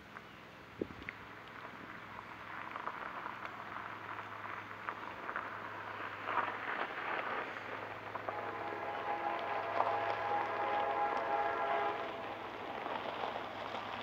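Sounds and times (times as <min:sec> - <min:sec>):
small fires crackling: 0:00.0 - 0:14.0
distant train hum: 0:01.2 - 0:14.0.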